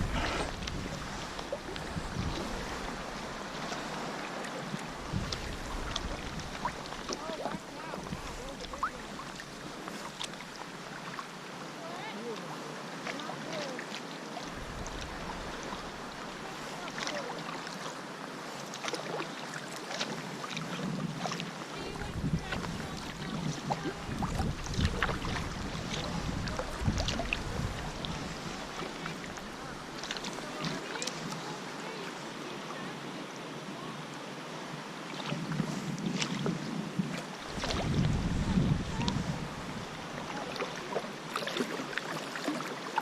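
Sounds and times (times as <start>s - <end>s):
paddle splashing water: 0.0s - 43.0s
steady wash of water: 0.0s - 43.0s.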